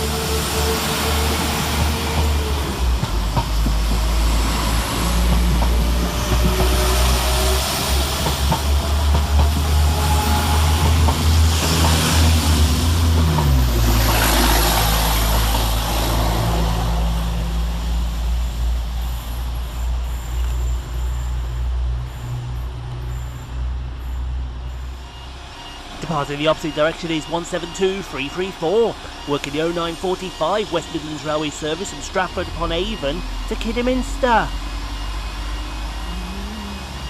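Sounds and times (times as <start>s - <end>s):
diesel train engines droning: 0.0s - 37.0s.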